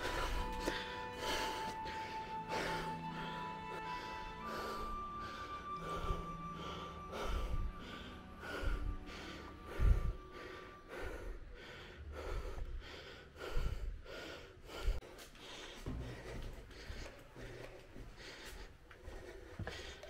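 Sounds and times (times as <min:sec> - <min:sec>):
heavy rhythmic breathing: 0:00.0 - 0:20.0.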